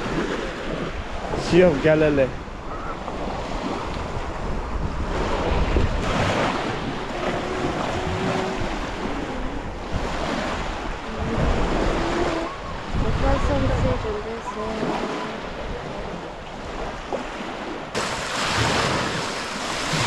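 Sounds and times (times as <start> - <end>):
waves lapping on pebble shore: 0.0 - 2.3, 3.1 - 20.0
wind buffeting microphone: 0.0 - 17.2.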